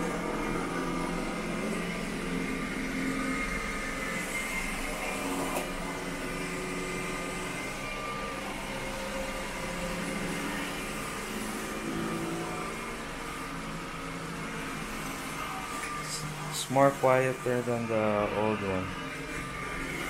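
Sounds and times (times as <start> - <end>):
robot vacuum whirring: 0.0 - 20.0.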